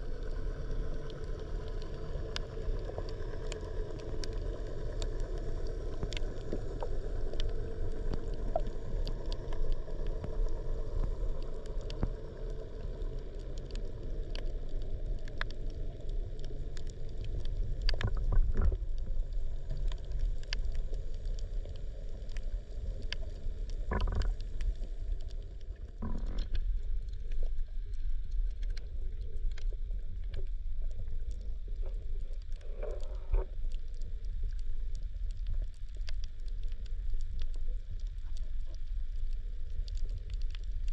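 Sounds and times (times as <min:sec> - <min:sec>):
underwater rumble of moving water: 0:00.0 - 0:40.9
faint sharp clicks: 0:00.2 - 0:12.2, 0:12.8 - 0:18.8, 0:19.6 - 0:40.9.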